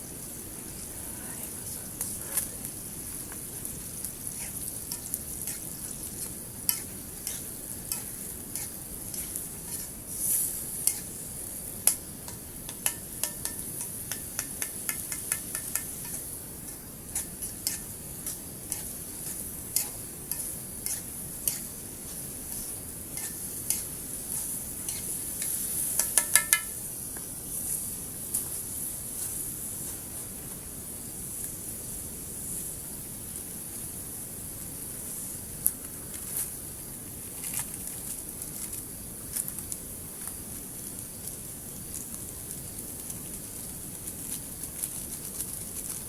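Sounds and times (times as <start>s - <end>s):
sizzling and crackling: 0.0s - 46.0s.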